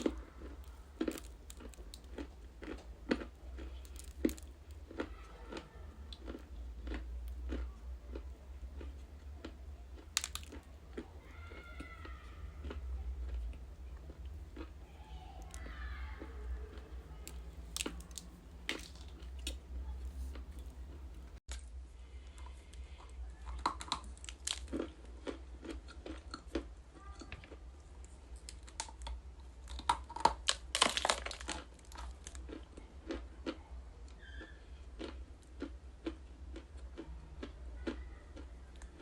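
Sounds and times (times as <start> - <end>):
chewing and crunching: 0.0 - 39.0.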